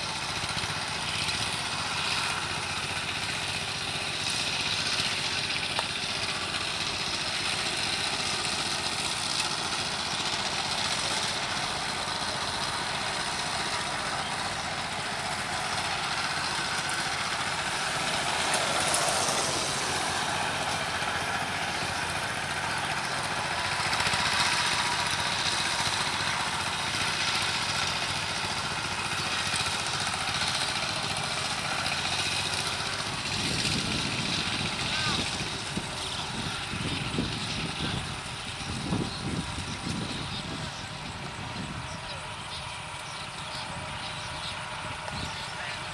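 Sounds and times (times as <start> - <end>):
diesel engine running under load: 0.0 - 45.9.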